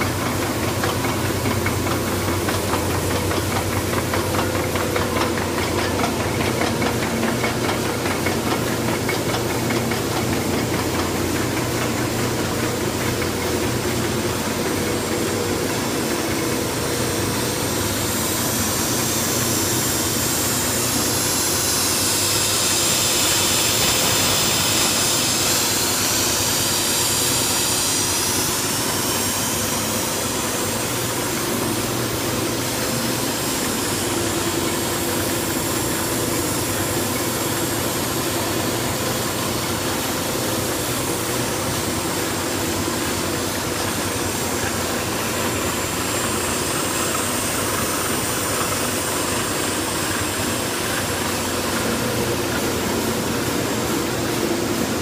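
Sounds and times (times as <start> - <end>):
factory machinery din: 0.0 - 55.0
high machine whine: 0.0 - 55.0.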